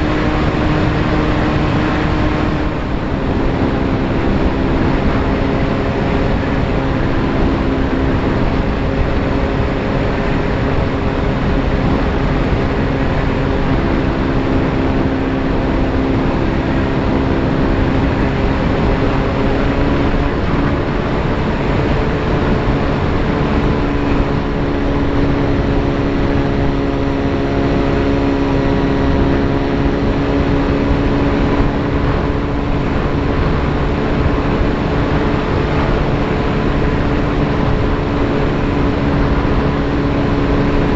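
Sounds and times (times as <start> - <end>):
wind rush: 0.0 - 40.9.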